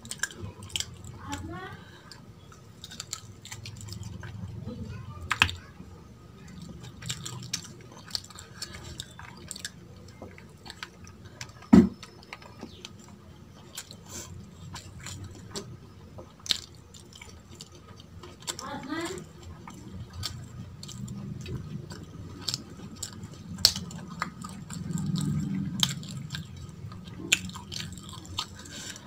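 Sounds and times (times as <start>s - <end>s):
wet chewing: 0.0s - 29.0s.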